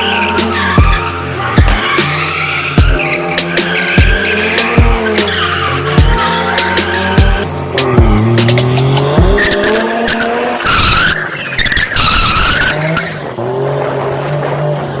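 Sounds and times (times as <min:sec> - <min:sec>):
tyres squealing: 0:00.0 - 0:13.2
car engine revving: 0:00.0 - 0:15.0.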